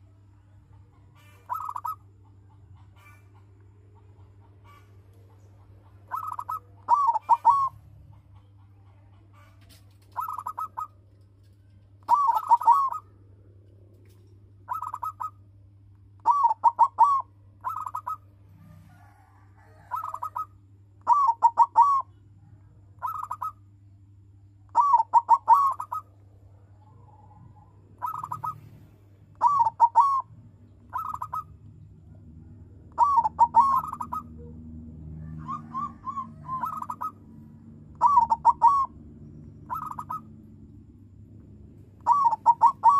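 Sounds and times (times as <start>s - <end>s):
dove cooing: 0.8s - 11.0s, 12.0s - 13.3s, 14.0s - 15.4s, 16.2s - 22.2s, 22.9s - 23.6s, 24.7s - 26.1s, 26.8s - 41.3s, 41.9s - 42.9s.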